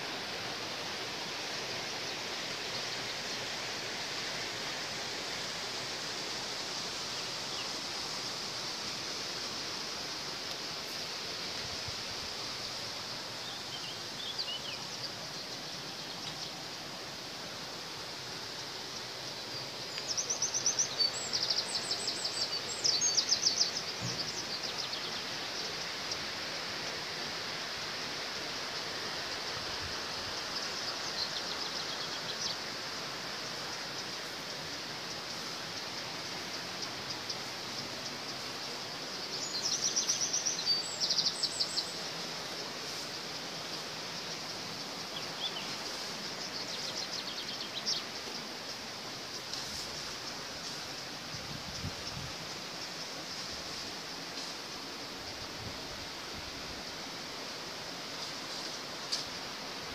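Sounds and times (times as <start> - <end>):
mountain stream rushing: 0.0 - 59.9
songbird singing: 6.2 - 27.6, 28.3 - 59.9.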